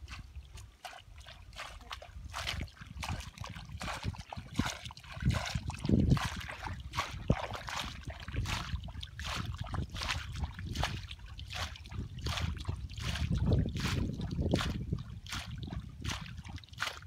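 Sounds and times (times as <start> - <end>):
hands churning wet mud: 0.0 - 17.0
muddy water splashing: 0.0 - 17.0.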